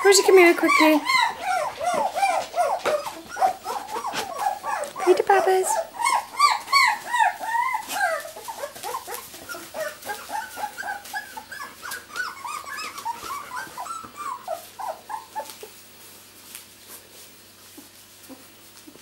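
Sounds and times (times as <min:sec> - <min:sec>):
puppies whimpering and squeaking: 0:00.0 - 0:15.9, 0:17.6 - 0:19.0.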